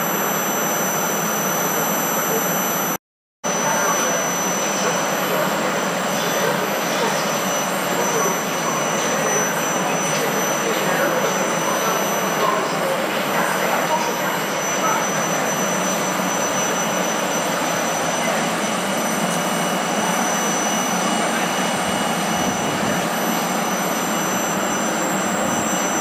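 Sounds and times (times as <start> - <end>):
high whine: 0.0 - 26.0.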